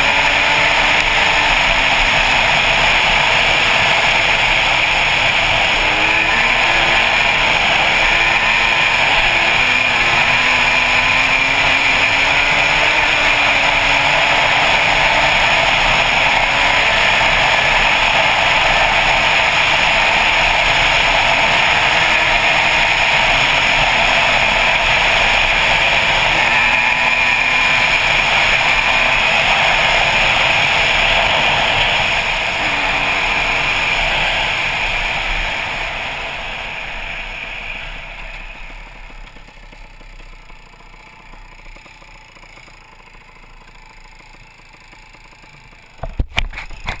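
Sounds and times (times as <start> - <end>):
rushing wind noise: 0.0 - 38.4
dirt bike engine: 0.0 - 47.0.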